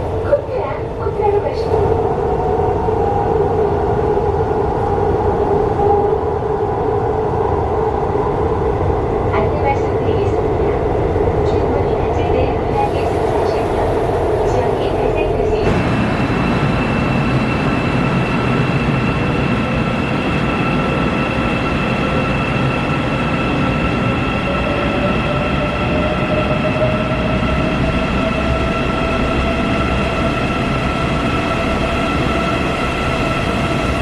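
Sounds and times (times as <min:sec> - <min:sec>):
metro train rumble and rail noise: 0:00.0 - 0:34.0.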